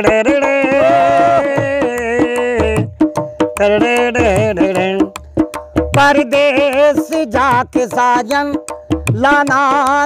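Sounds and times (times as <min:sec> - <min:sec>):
dholak drumming: 0:00.0 - 0:10.0
man singing: 0:00.0 - 0:10.0.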